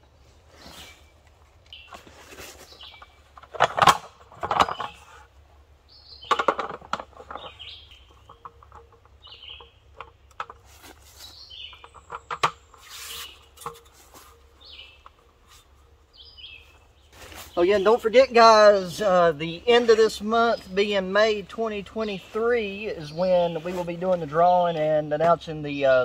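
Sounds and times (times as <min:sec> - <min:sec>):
songbird chirping: 0:00.0 - 0:26.0.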